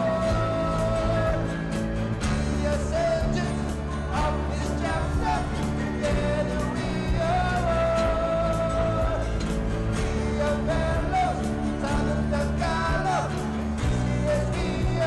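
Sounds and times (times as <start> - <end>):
upbeat pop song: 0.0 - 15.0.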